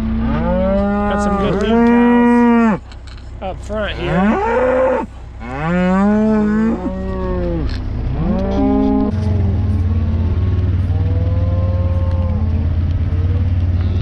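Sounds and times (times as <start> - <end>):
cows mooing: 0.0 - 2.9, 3.7 - 14.0
vehicle engine hum: 0.0 - 14.0.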